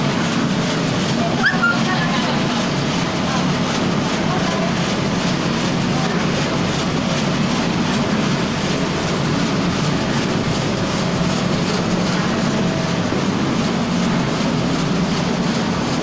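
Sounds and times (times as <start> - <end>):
machine humming and clattering: 0.0 - 16.0.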